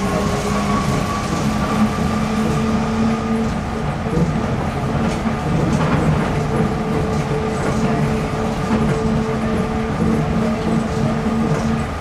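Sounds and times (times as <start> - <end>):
tyres rumbling on guideway: 0.0 - 12.0.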